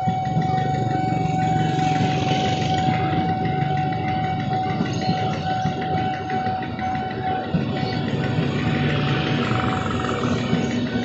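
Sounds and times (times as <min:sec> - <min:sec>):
level crossing alarm tone: 0:00.0 - 0:11.0
train wheels rumbling on rails: 0:00.0 - 0:11.0.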